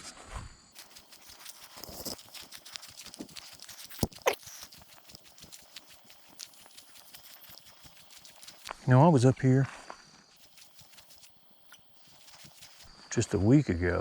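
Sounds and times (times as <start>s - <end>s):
footsteps crunching through dry leaves: 0.8s - 12.9s.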